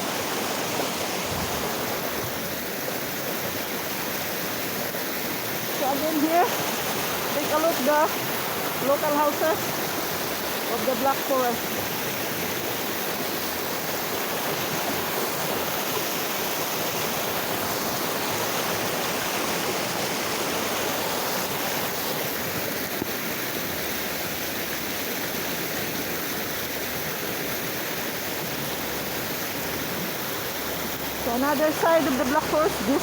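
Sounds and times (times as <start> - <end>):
stream rushing: 0.0 - 33.0.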